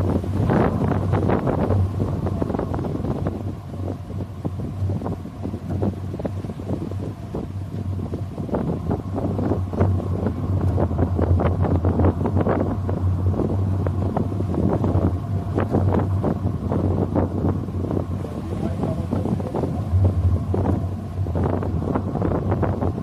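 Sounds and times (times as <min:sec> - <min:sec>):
steady low hum: 0:00.0 - 0:23.0
wind buffeting microphone: 0:00.0 - 0:23.0.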